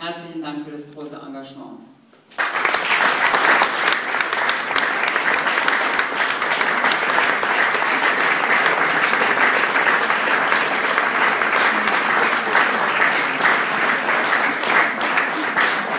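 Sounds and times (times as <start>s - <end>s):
audience applauding: 2.3s - 15.9s.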